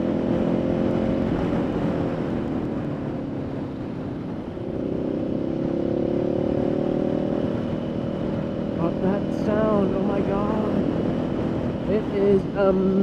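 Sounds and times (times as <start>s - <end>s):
motorcycle engine: 0.0s - 13.0s
wind noise: 0.0s - 13.0s.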